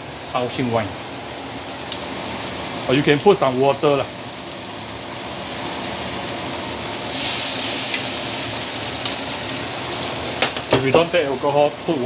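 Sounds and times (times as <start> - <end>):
liquid hissing in a hot pan: 0.0 - 12.0
okra sizzling in a wok: 0.0 - 12.0.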